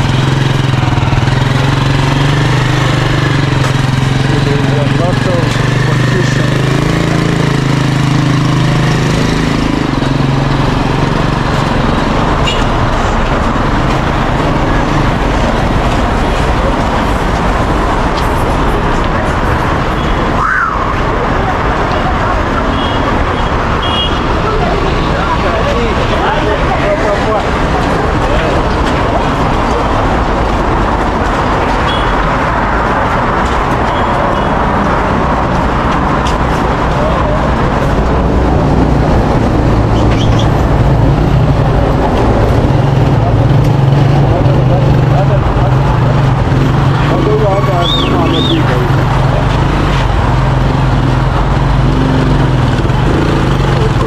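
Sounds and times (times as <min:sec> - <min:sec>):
motorbike engine running: 0:00.0 - 0:20.1, 0:21.1 - 0:54.0
heavy road traffic roar: 0:00.0 - 0:54.0.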